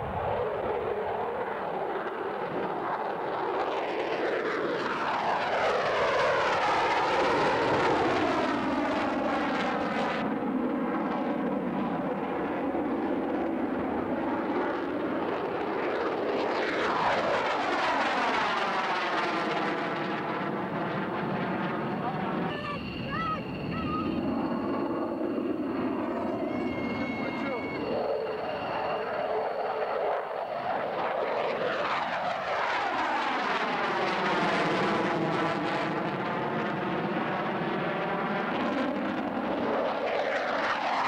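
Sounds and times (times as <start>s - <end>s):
jet engines roaring overhead: 0.0s - 41.0s.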